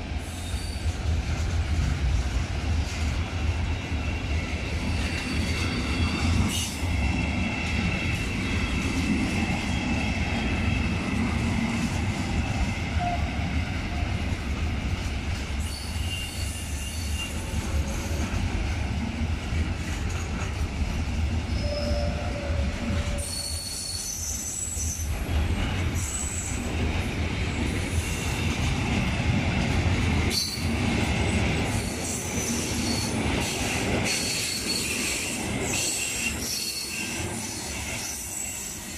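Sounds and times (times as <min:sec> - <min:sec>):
train wheel squeal: 0:00.0 - 0:01.5, 0:03.7 - 0:14.3, 0:15.3 - 0:18.4, 0:20.0 - 0:26.8, 0:27.5 - 0:29.1, 0:30.3 - 0:38.9.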